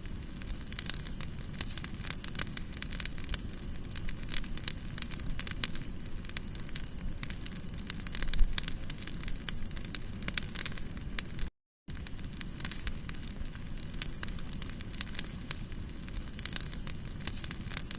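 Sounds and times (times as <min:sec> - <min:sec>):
campfire crackling and popping: 0:00.0 - 0:17.9.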